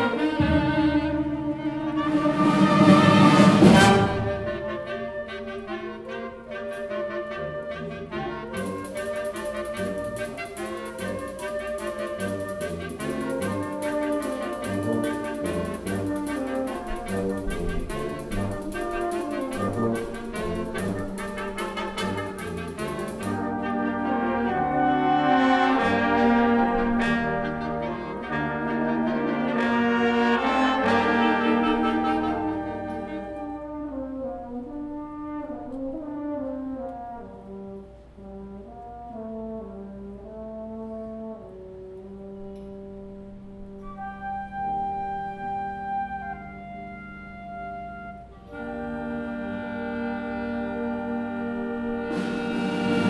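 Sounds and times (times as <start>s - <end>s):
sustained brass chords: 0.0s - 53.0s
wind band percussion: 0.0s - 53.0s.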